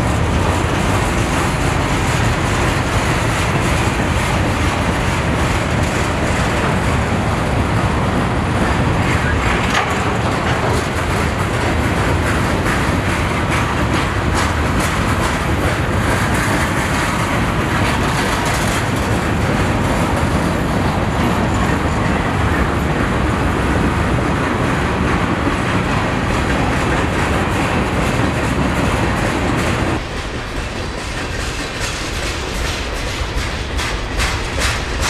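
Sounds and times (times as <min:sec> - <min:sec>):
clickety-clack over rail joints: 0:00.0 - 0:35.0
freight train wheels rumbling on rails: 0:00.0 - 0:35.0.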